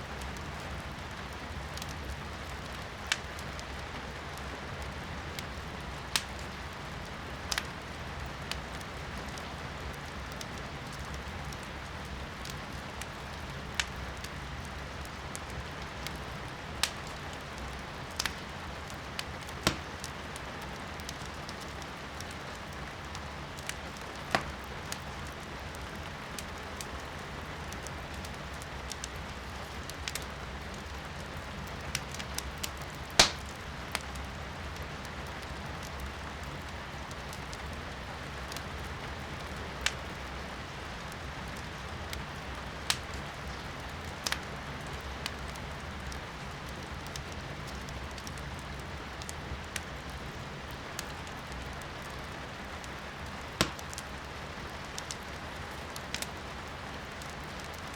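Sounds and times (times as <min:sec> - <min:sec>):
firewood crackling and popping: 0:00.0 - 0:57.9
rain hiss heard indoors: 0:00.0 - 0:57.9.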